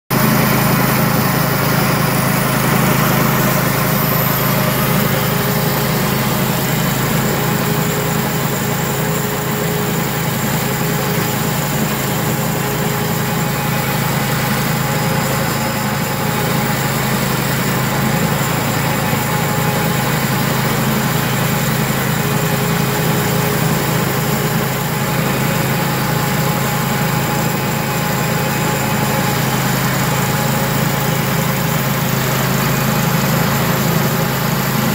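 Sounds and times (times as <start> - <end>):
band sawmill cutting log: 0.1 - 34.9.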